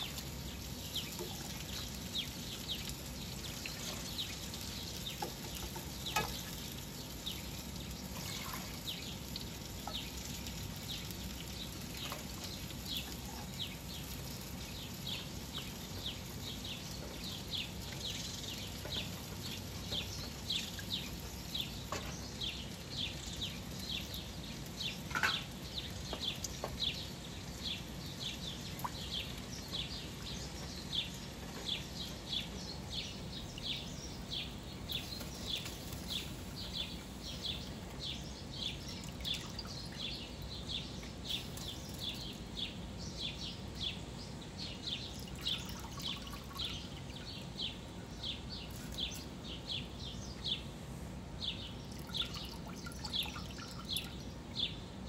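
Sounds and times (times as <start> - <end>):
bird chirping: 0.0 - 50.8, 51.4 - 54.9
low steady hum: 0.0 - 55.0.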